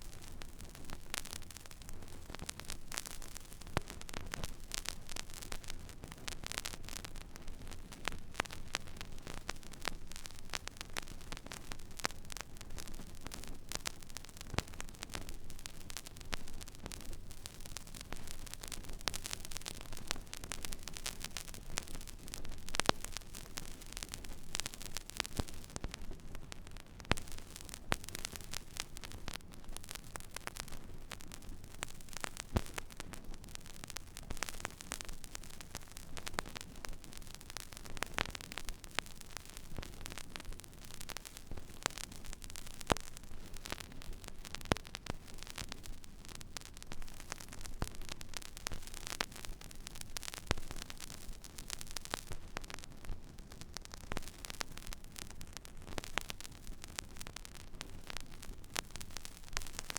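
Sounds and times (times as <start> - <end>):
vinyl surface hiss and crackle: 0.0 - 59.9.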